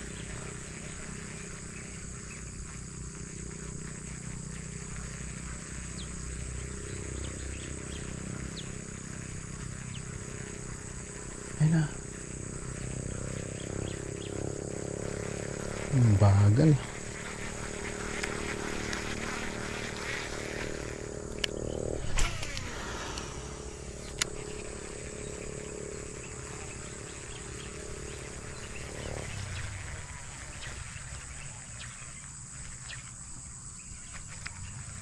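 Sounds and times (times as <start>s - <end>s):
fishing reel gears humming: 0.0s - 35.0s
high insect drone: 0.0s - 35.0s.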